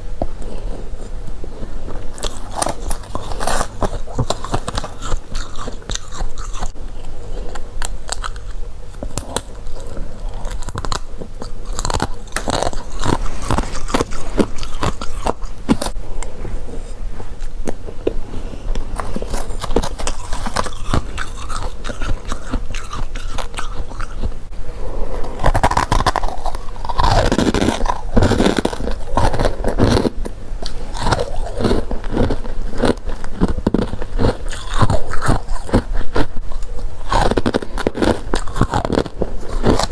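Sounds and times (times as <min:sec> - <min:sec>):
chewing crunchy frost: 0:00.4 - 0:24.4, 0:25.1 - 0:39.9.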